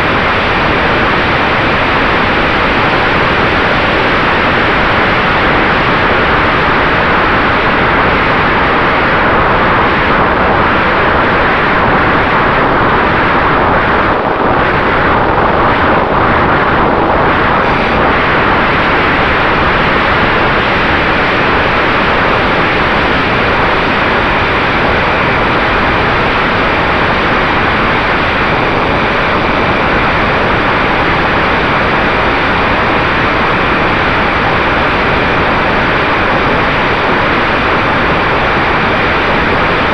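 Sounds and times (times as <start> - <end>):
rush of wind noise: 0.0 - 39.9.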